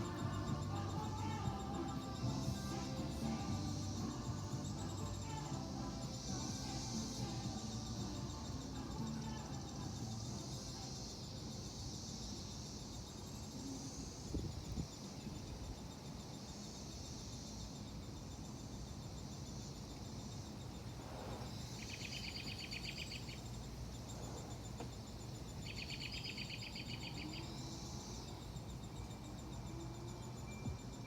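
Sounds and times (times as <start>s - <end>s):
birds chirping in trills: 0.0s - 12.9s, 17.5s - 31.0s
high insect buzz: 0.0s - 31.0s.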